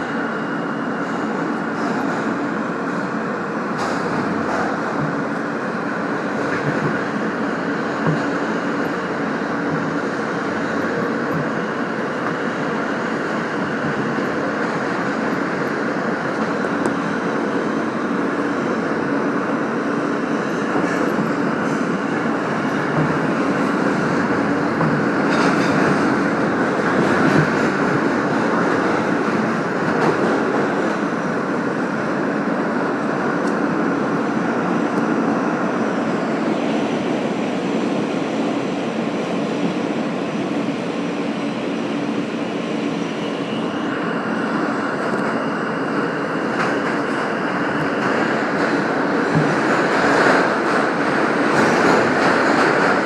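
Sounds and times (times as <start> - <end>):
subway train rumbling on rails: 0.0 - 53.0.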